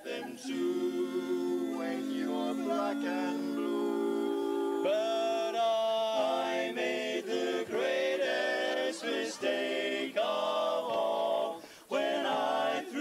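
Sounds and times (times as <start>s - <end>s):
male quartet singing a cappella: 0.0s - 13.0s.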